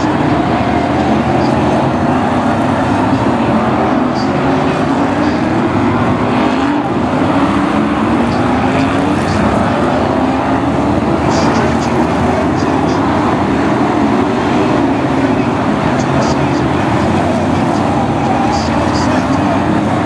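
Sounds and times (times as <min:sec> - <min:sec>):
racing car engines circling: 0:00.0 - 0:20.0.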